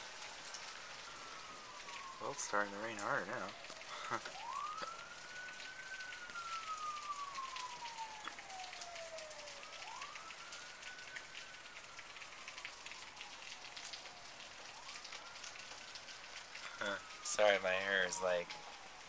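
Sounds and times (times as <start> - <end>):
hard rain falling: 0.0 - 19.0
wailing siren: 0.0 - 19.0.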